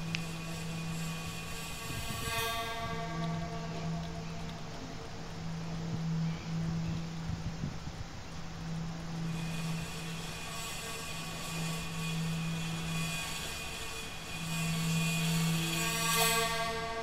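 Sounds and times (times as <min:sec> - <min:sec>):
high sustained tones: 0:00.0 - 0:17.0
low drone hum: 0:00.0 - 0:17.0
soft hiss: 0:00.0 - 0:17.0.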